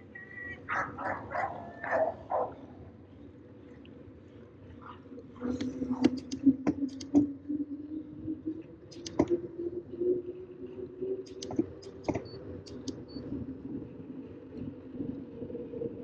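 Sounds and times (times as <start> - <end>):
bike tires humming on asphalt: 0.0 - 16.0.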